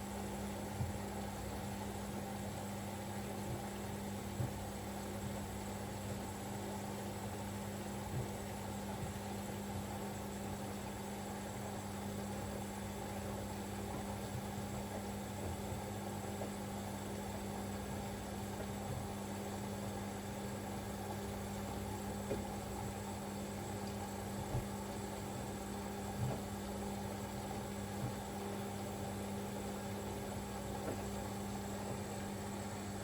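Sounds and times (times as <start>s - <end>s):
washing machine humming: 0.0s - 33.0s.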